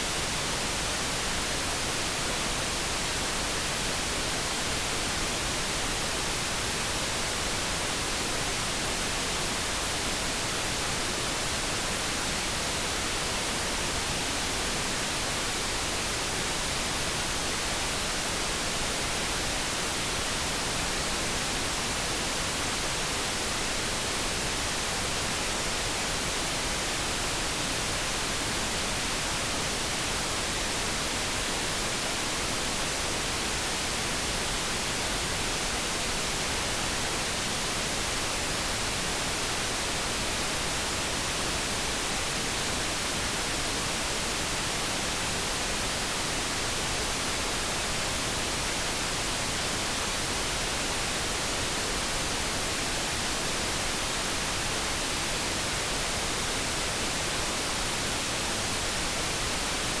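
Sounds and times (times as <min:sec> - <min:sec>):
brown noise hiss: 0:00.0 - 1:00.0.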